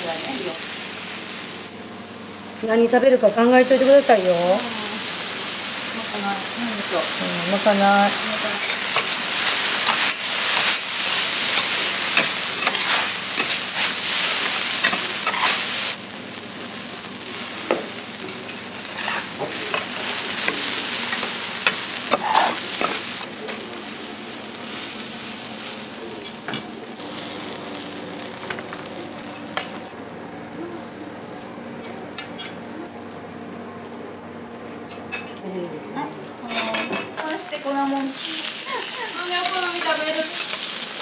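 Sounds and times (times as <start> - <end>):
sauce sizzling on griddle: 0.0 - 31.2, 37.2 - 41.0.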